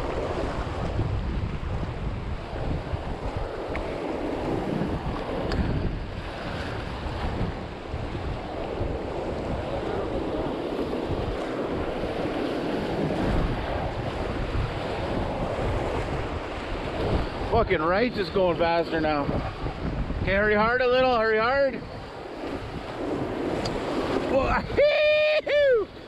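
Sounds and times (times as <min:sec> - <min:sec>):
river current rushing: 0:00.0 - 0:26.0
wind noise on microphone: 0:00.0 - 0:26.0.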